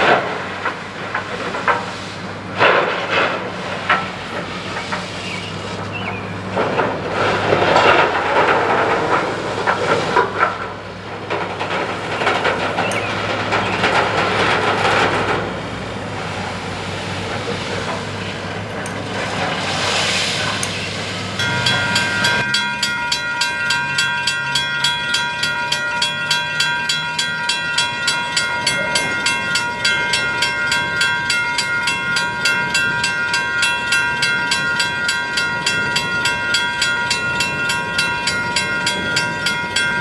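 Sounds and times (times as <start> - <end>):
diesel engine running: 3.4 - 40.0.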